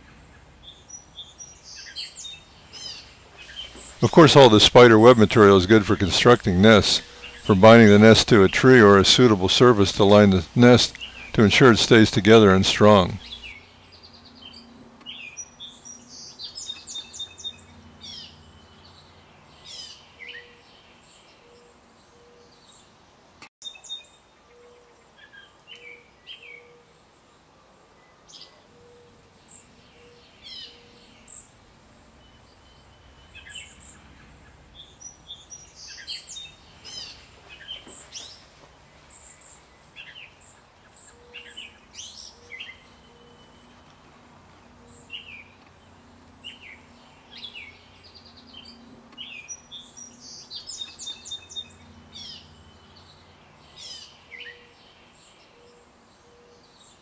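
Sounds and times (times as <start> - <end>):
birds chirping and trilling: 0.0 - 23.0, 23.6 - 57.0.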